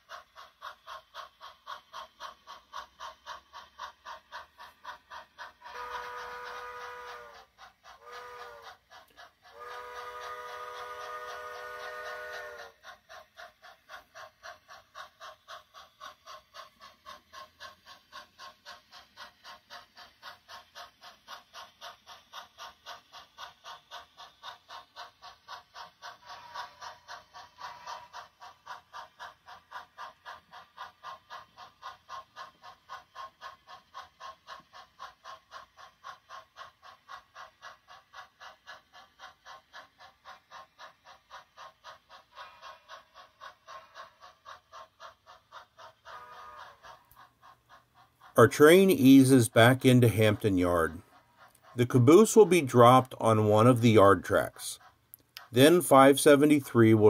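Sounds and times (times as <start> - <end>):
model steam locomotive chuffing: 0.0 - 57.0.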